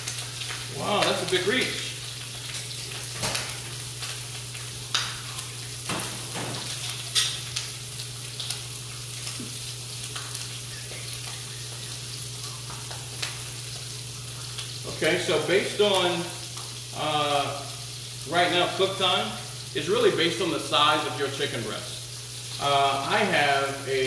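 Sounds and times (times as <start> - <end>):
chicken sizzling in a pan: 0.0 - 24.0.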